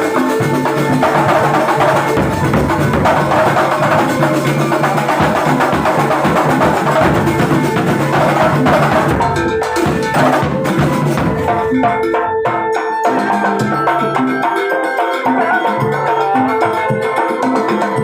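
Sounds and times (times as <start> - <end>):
percussion ensemble drumming: 0.0 - 18.0
ringing pitched tones: 0.0 - 18.0.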